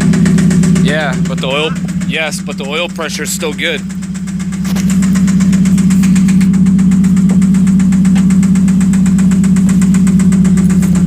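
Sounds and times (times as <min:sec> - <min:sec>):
car engine idling with knock: 0:00.0 - 0:11.0.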